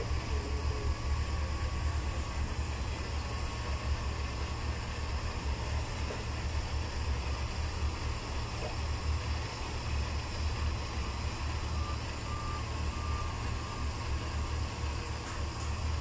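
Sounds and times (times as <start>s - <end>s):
vehicle reversing alarm beeps: 0.0s - 4.4s, 5.0s - 16.0s.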